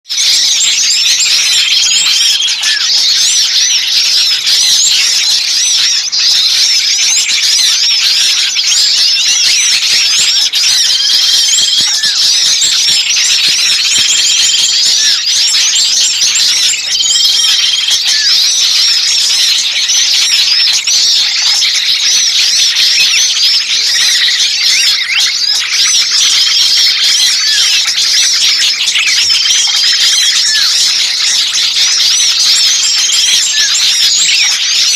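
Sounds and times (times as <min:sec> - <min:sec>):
small songbirds chirping: 0:00.0 - 0:34.9.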